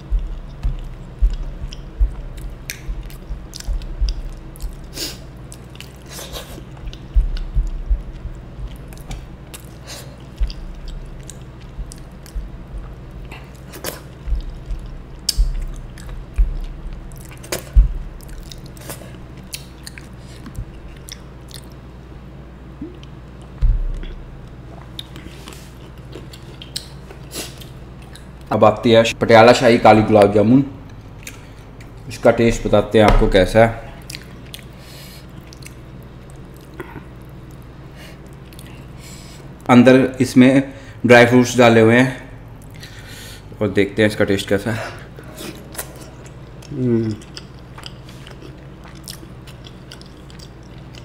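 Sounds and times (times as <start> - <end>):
wet chewing and mouth sounds: 0.0 - 21.8, 22.8 - 28.5, 30.8 - 32.7, 33.3 - 39.7, 42.5 - 43.0, 45.1 - 51.0.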